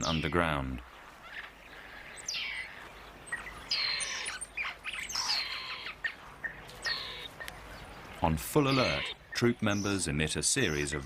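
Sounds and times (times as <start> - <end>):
mongoose alarm calls: 0.0 - 11.0.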